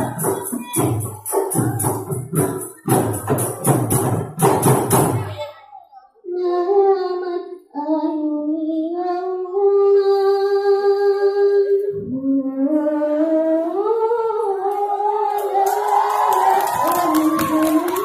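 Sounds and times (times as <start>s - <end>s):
girls singing in unison: 0.0s - 4.0s, 6.3s - 18.0s.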